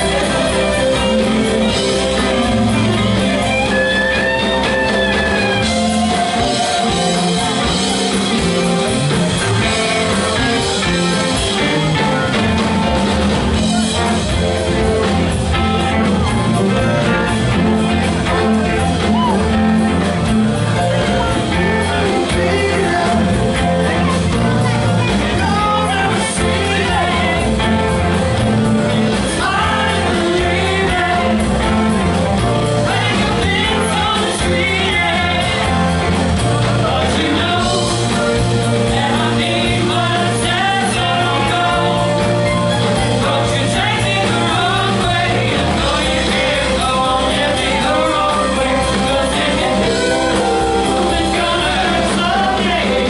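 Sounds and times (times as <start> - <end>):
person singing: 0.0 - 53.0
rock band playing loudly: 0.0 - 53.0.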